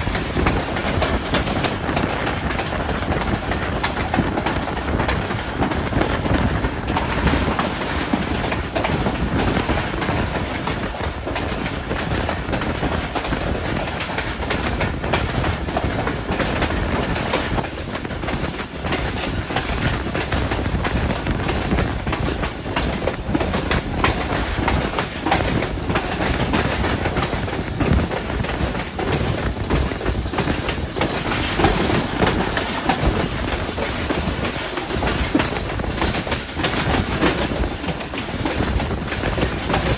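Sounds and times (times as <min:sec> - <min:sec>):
train rumbling on track: 0:00.0 - 0:39.9
wheels clacking over rail joints: 0:00.0 - 0:39.9.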